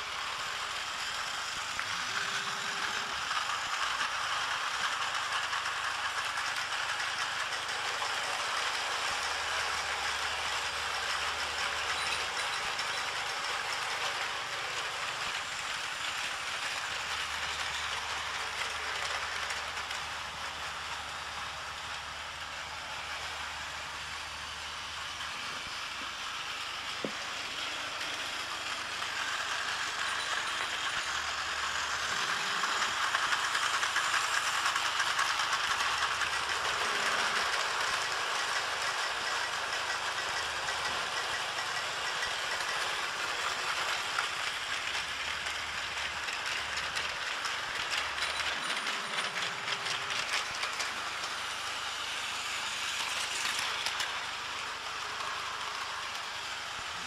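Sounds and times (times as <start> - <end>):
toy train motors whirring: 0.0 - 57.0.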